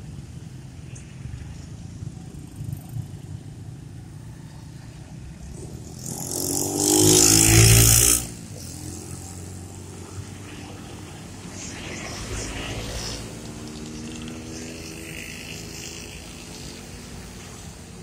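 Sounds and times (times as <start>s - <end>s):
motorcycles and scooters passing: 0.0s - 18.0s.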